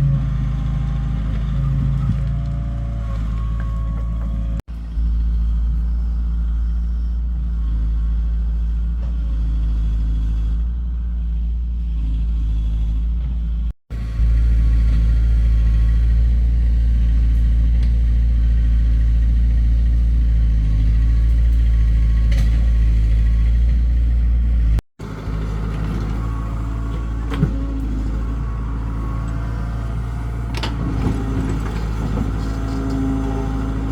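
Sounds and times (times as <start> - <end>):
heavy engine droning: 0.0 - 33.9.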